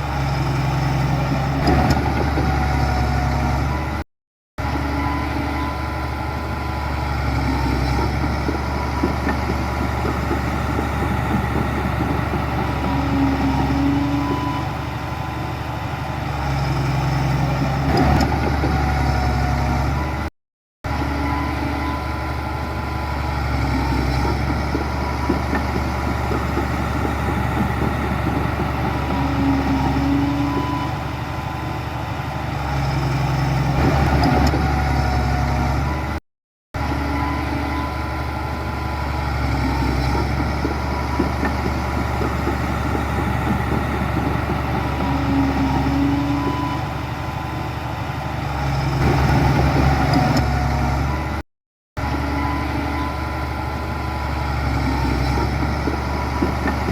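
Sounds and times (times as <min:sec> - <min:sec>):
heavy diesel engine running: 0:00.0 - 0:04.0, 0:04.6 - 0:36.2, 0:36.8 - 0:51.4, 0:52.0 - 0:56.9.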